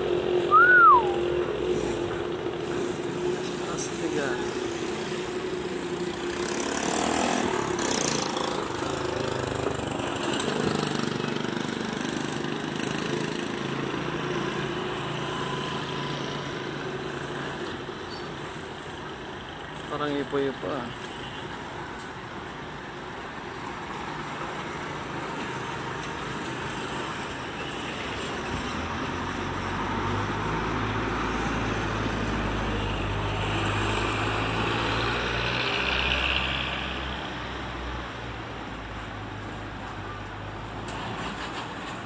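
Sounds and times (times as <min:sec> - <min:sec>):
street traffic hum: 0:00.0 - 0:42.0
vehicle engine running nearby: 0:00.0 - 0:42.0.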